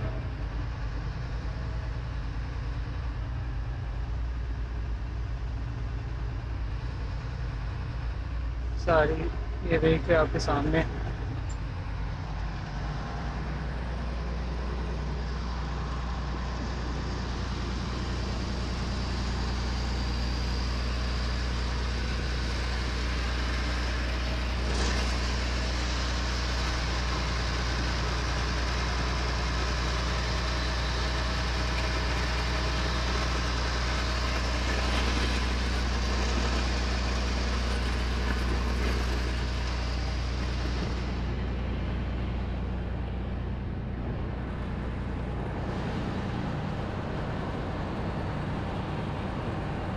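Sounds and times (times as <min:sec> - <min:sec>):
diesel engine drone with clatter: 0:00.0 - 0:49.9.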